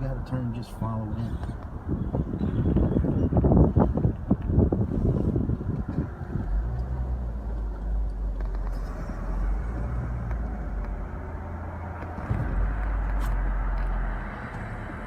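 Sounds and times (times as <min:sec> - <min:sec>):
car engine running: 0:00.7 - 0:15.0.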